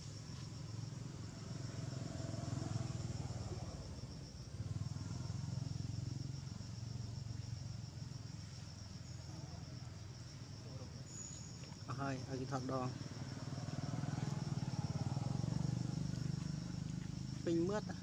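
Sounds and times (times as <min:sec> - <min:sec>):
distant low motor rumble: 0:00.0 - 0:18.0
insects chirping in high trill: 0:00.0 - 0:18.0.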